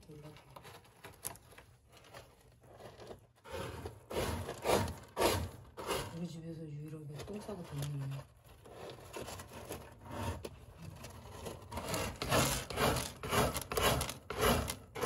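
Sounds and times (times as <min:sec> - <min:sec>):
cat scratching litter: 0:00.0 - 0:15.0.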